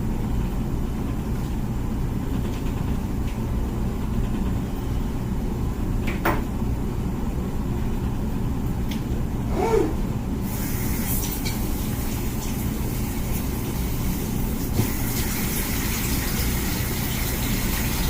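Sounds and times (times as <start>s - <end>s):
dishwasher humming: 0.0s - 18.0s.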